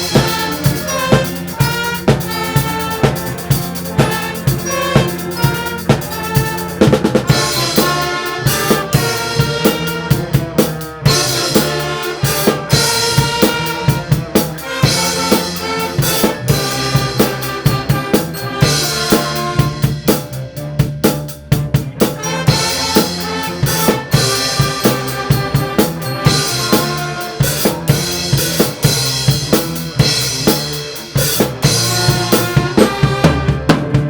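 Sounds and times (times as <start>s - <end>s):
band playing rock music: 0.0s - 34.0s
bass drum and snare beat: 0.0s - 34.0s.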